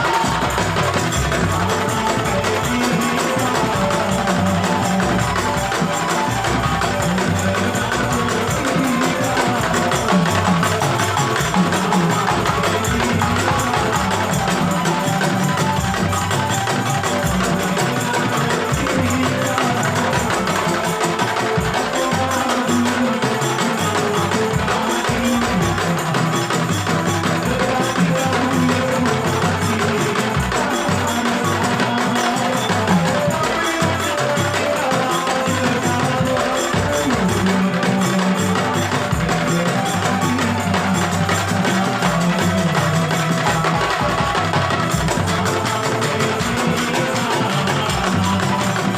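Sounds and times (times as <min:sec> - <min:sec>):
music with steady percussion: 0:00.0 - 0:48.9.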